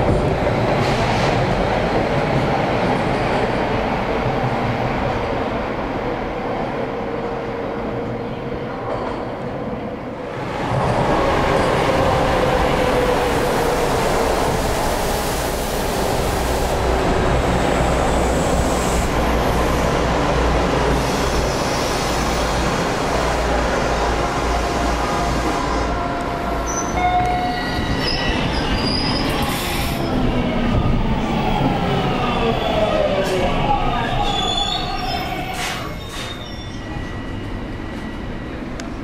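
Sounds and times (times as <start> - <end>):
subway train wheels rumbling: 0.0 - 39.0.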